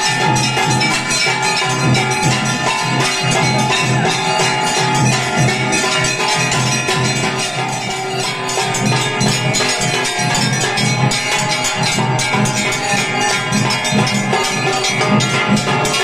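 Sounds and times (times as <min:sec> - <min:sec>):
hand bells clanging: 0:00.0 - 0:16.0
steady drum beat: 0:00.0 - 0:16.0.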